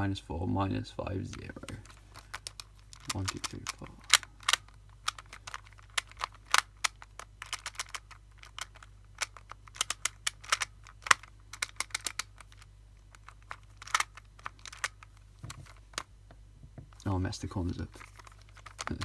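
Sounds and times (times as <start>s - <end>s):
puzzle dials clicking: 1.3s - 16.1s, 17.9s - 19.0s.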